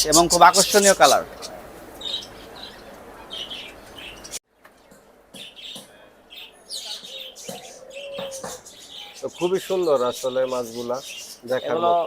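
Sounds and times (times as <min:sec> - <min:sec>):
small birds chirping: 0:00.0 - 0:12.0
steady background noise: 0:00.0 - 0:12.0.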